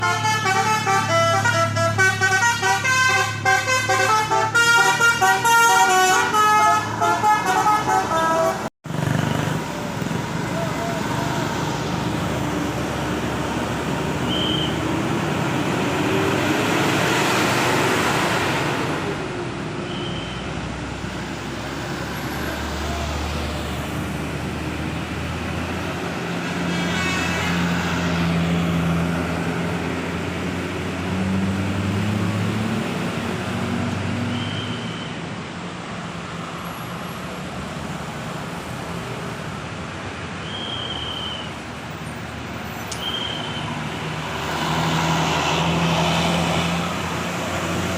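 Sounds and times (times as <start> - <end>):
heavy vehicle engine hum: 0.0 - 47.9
vehicles passing: 0.0 - 47.9.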